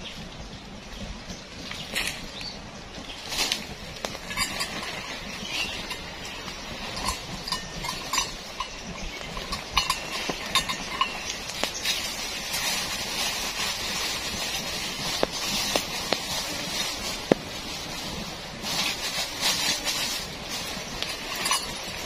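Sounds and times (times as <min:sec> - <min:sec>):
high forest hiss: 0:00.0 - 0:22.0
campfire crackling and popping: 0:00.6 - 0:22.0.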